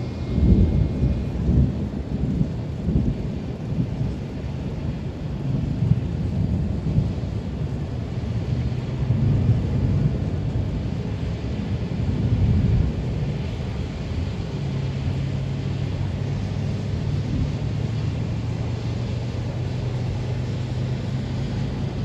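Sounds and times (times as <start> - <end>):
rain hissing: 0.0 - 22.0
thunder rumbling: 0.0 - 22.0.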